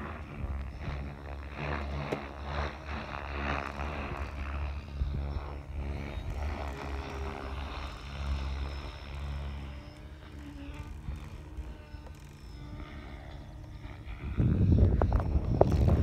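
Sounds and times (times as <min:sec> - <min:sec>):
faint high whine: 0:00.0 - 0:16.0
wind buffeting microphone: 0:00.0 - 0:16.0.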